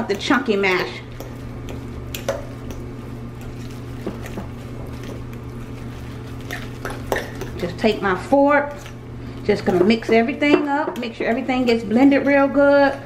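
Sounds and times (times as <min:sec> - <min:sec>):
fork mashing potatoes: 0:00.0 - 0:13.0
steady low hum: 0:00.0 - 0:13.0.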